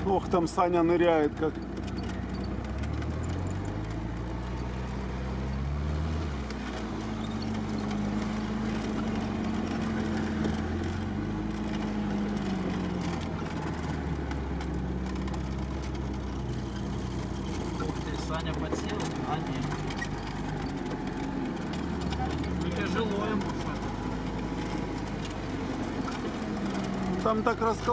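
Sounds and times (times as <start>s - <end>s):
vehicle engine revving under load: 0.0s - 27.9s.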